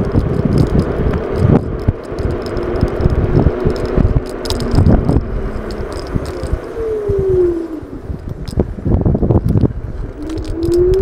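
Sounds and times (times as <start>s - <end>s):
tyre rumble: 0.0s - 11.0s
wind buffeting microphone: 0.0s - 11.0s
faint motor whine: 0.1s - 11.0s.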